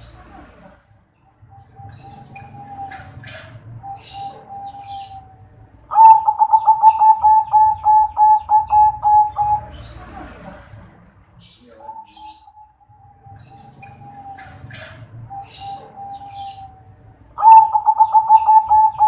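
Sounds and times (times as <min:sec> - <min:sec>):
small birds chirping: 0:00.0 - 0:19.0
dove cooing: 0:01.4 - 0:10.7, 0:11.4 - 0:19.0.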